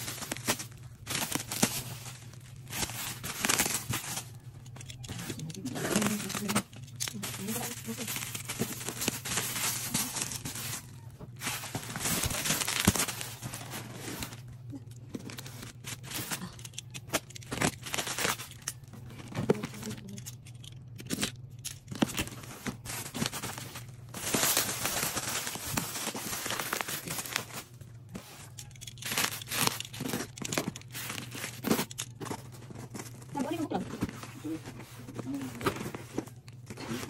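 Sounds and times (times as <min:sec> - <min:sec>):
packaging tearing: 0:00.0 - 0:14.5, 0:15.3 - 0:18.9, 0:19.6 - 0:37.0
packaging crinkling: 0:00.0 - 0:37.0
steady low hum: 0:00.0 - 0:37.0.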